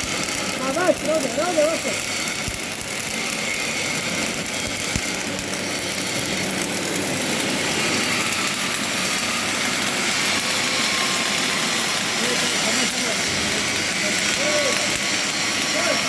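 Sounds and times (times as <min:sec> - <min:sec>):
welding arc hissing: 0:00.0 - 0:16.0.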